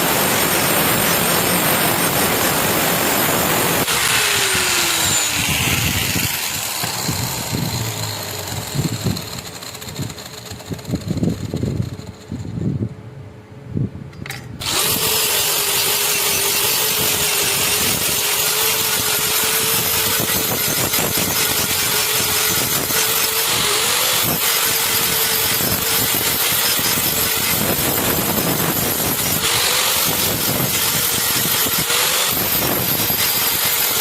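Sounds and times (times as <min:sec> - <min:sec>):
power tool grinding knife blade: 0:00.0 - 0:12.6, 0:14.6 - 0:34.0.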